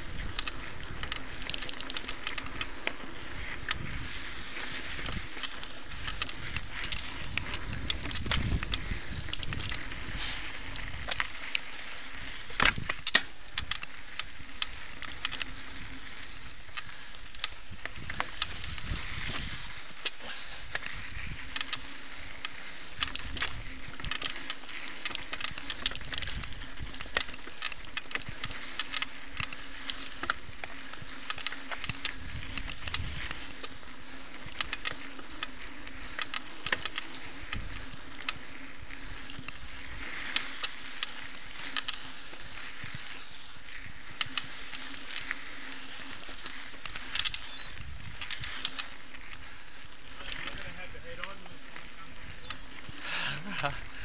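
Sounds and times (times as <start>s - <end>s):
bike rattling over bumps: 0.0s - 54.0s.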